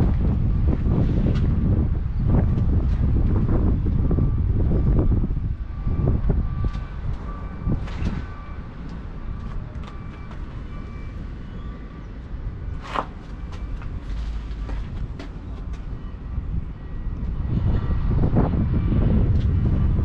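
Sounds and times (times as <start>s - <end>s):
heavy machinery rumbling: 0.0s - 20.0s
faint whining tones: 0.1s - 20.0s.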